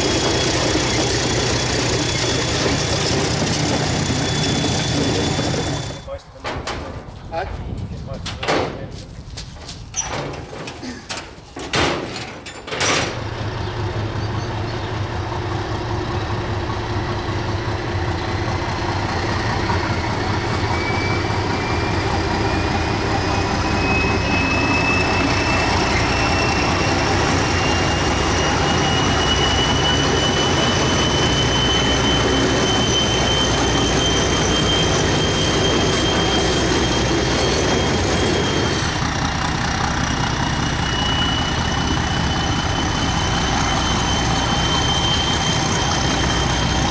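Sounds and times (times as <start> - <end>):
diesel locomotive engine drone: 0.0 - 9.9, 10.5 - 46.9.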